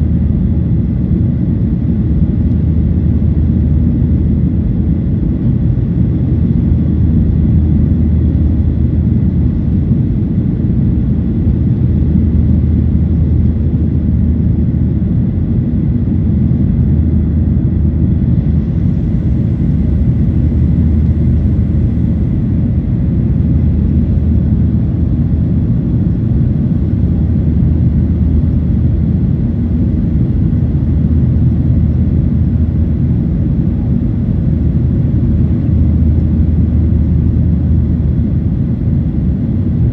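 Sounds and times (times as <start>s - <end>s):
faint steady whine: 0.0s - 39.9s
jet engine rumble in cabin: 0.0s - 39.9s.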